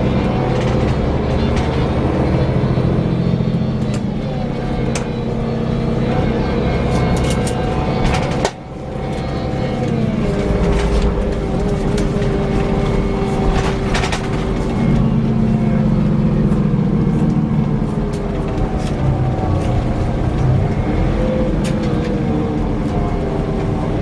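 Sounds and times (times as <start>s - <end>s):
coach engine drone with whine: 0.0s - 24.0s.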